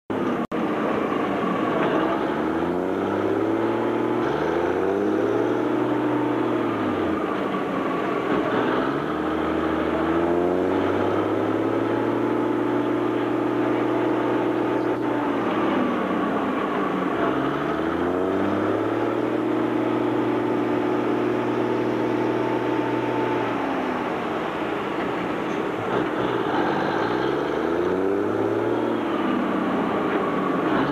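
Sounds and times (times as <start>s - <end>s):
engine running under load: 0.1s - 30.9s.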